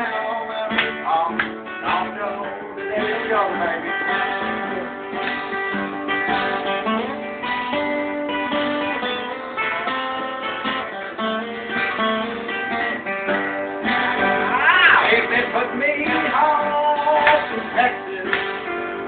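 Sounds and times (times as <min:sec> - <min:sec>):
acoustic guitars strumming chords: 0:00.0 - 0:19.0.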